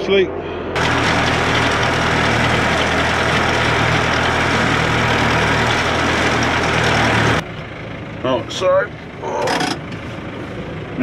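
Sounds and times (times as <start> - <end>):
tractor engine drone: 0.0 - 11.0
mechanical whirr of feeder wagon: 0.7 - 8.1, 9.3 - 11.0.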